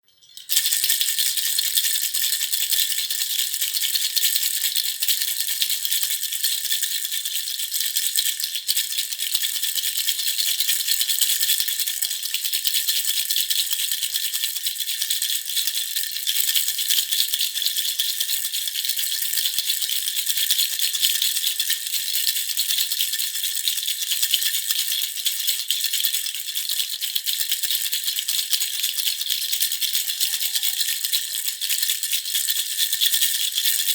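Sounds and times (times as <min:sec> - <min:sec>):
baby rattle jingling: 0:00.0 - 0:33.9.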